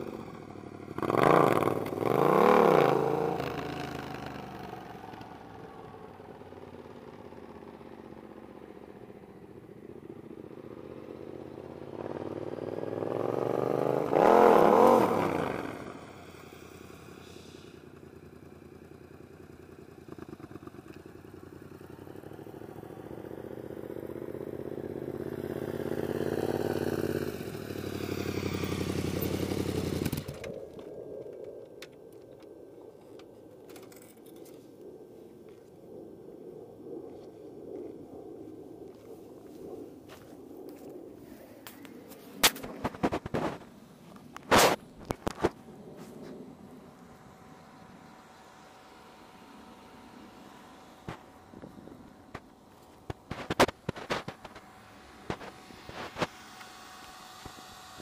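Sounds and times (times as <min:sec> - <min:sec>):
motorcycle engine revving: 0:00.0 - 0:17.2, 0:17.9 - 0:31.4, 0:41.7 - 0:58.0.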